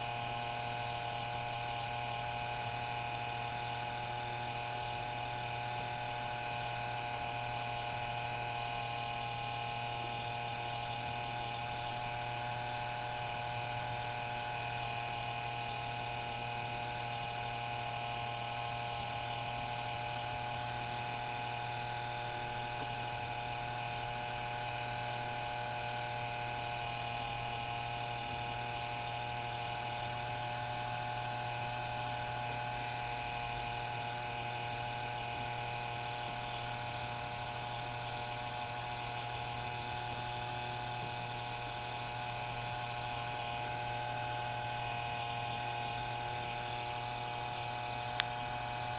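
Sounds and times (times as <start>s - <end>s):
electric motor whirring: 0.0s - 48.9s.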